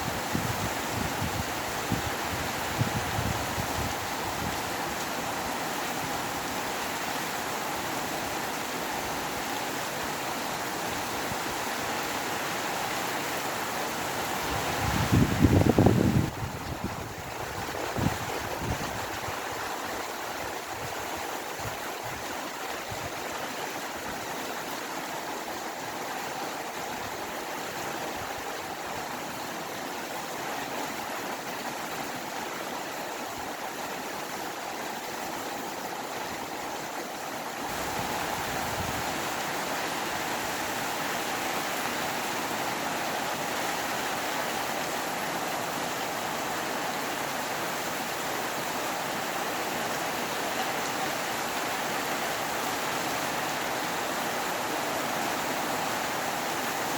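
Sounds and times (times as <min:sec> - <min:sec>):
rain with wind: 0:00.0 - 0:56.9.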